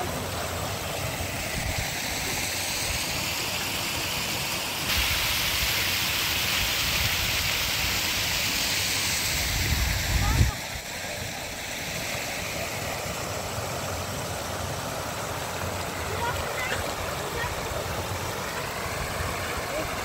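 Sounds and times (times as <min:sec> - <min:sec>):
rain falling in steady hiss: 0:00.0 - 0:20.0.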